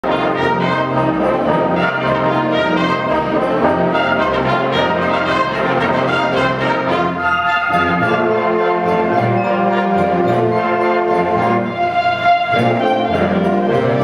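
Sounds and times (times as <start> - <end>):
concert band playing: 0.0 - 14.0.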